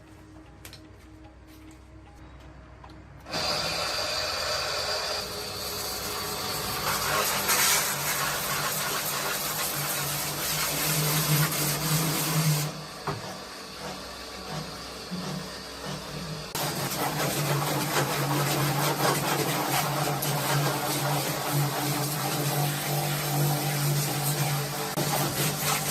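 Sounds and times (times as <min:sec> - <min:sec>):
power tool humming and hissing: 0:03.3 - 0:25.9.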